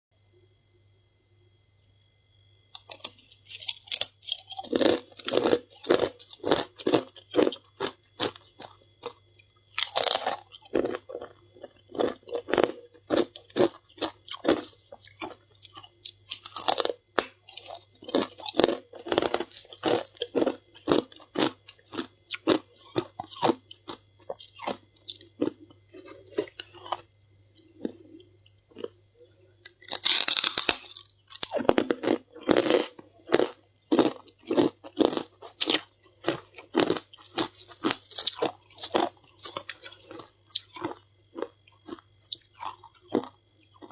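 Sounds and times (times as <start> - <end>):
crunchy chewing: 1.8 - 43.9.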